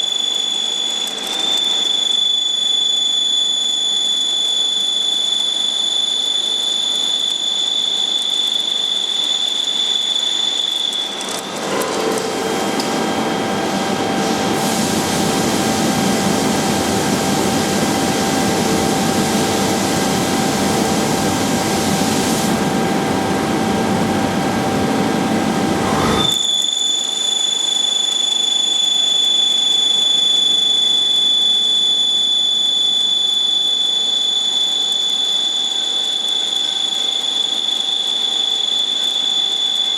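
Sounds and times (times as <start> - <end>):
machine high-pitched whine: 0.0 - 39.9.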